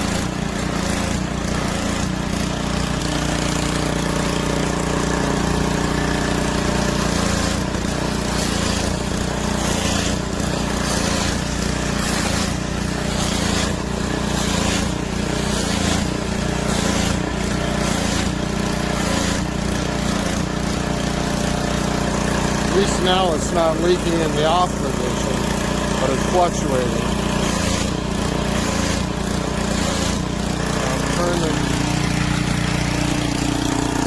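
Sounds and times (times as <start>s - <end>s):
high-pressure water spray hissing: 0.0s - 34.0s
small gas engine running: 0.0s - 34.0s.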